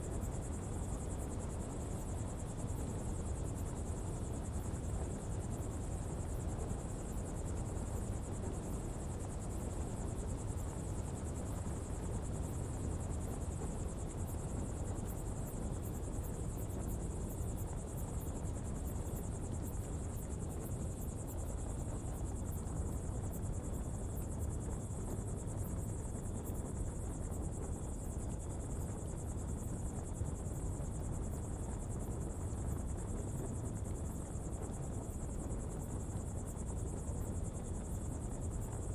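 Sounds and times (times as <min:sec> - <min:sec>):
fire burning with low rumble: 0:00.0 - 0:38.9
high insect trill: 0:00.0 - 0:38.9.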